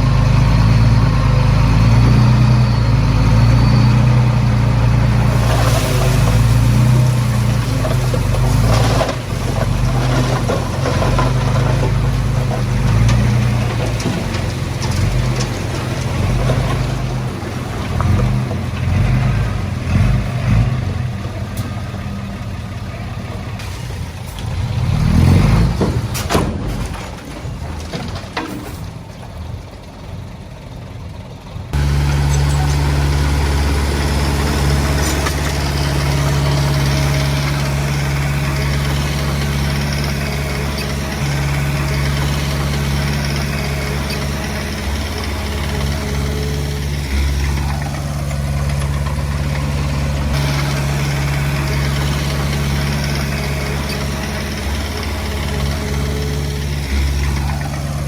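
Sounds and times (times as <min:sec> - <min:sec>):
distant vehicle: 0:00.0 - 0:58.0
heavy diesel engine running: 0:00.0 - 0:58.0.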